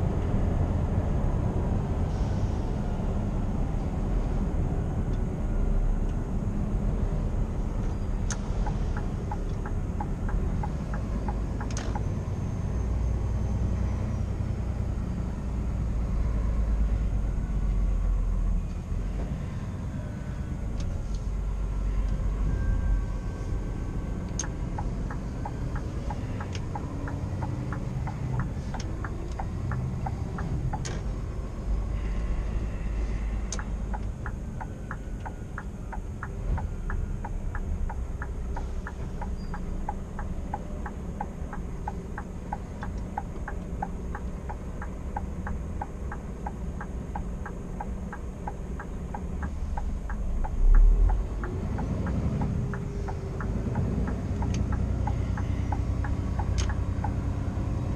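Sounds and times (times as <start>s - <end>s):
truck engine and road rumble: 0.0s - 57.9s
turn signal ticking: 7.2s - 18.0s, 20.6s - 57.9s.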